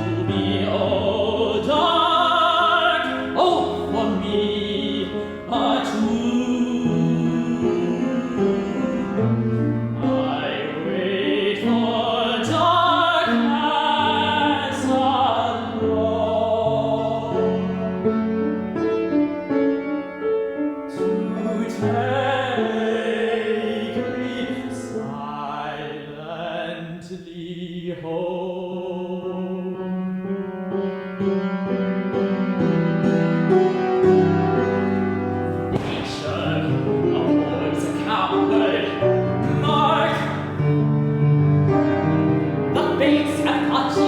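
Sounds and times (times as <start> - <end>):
operatic singing with vibrato: 0.0 - 18.2, 20.8 - 30.2, 33.7 - 44.0
piano accompaniment: 0.0 - 26.7, 28.1 - 44.0.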